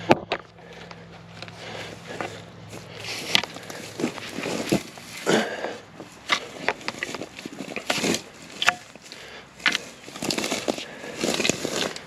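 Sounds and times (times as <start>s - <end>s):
boots crunching through dry grass: 1.2s - 12.0s.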